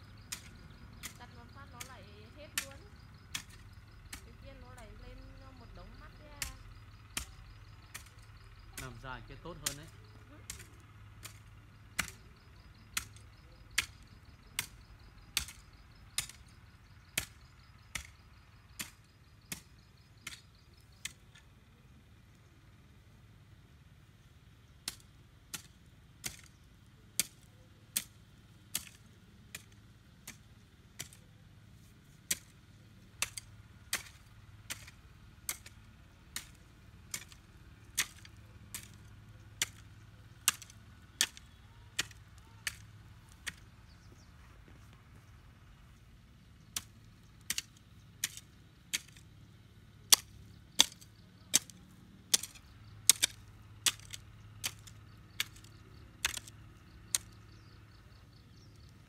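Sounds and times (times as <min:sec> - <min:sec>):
blade chopping grass stalks: 0:00.1 - 0:21.4, 0:24.8 - 0:46.0, 0:46.6 - 0:49.4, 0:50.0 - 0:57.8.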